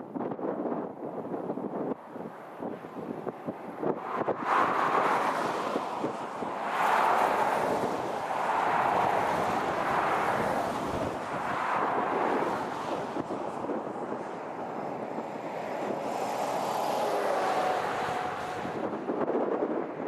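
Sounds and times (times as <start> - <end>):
road traffic passing close: 1.9 - 20.0.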